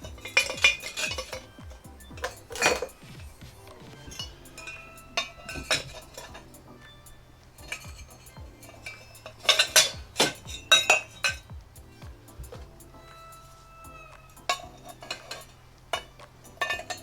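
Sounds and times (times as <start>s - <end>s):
metal pipes clinking and clanking: 0.0s - 17.0s.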